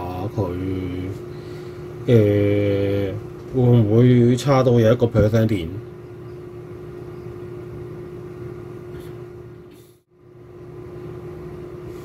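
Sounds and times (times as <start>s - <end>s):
low drone with hiss: 0.0s - 10.4s.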